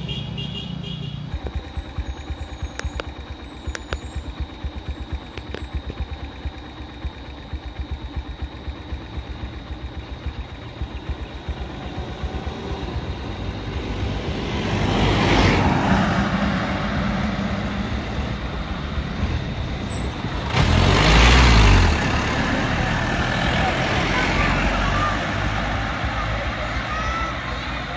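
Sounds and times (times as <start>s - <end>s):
vehicle approaching: 0.0s - 27.9s
vehicle engine idling: 0.0s - 27.9s.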